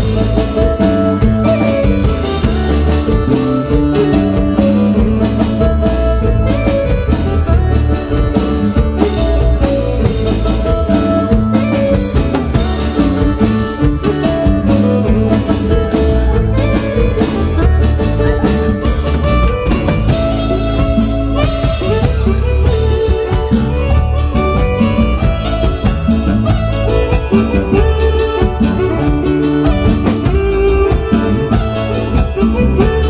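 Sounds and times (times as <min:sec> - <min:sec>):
drum kit beat: 0:00.0 - 0:33.0
electronic keyboard melody: 0:00.0 - 0:33.0.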